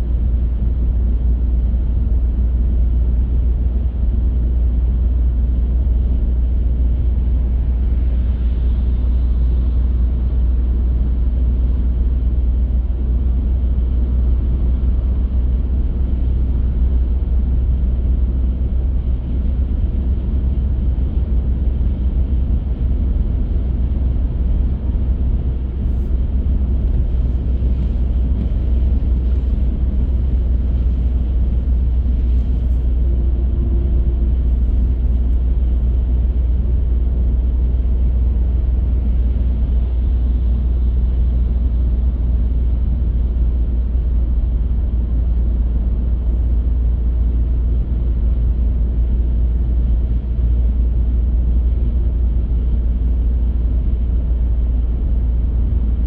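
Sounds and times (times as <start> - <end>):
car tyres and engine rumbling: 0.0 - 56.0.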